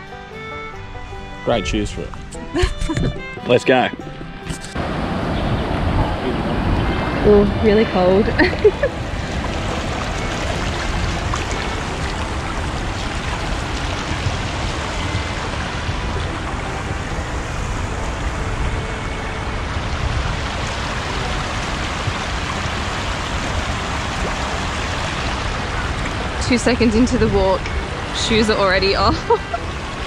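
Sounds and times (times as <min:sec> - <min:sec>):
river water rushing over rocks: 0:04.8 - 0:30.0.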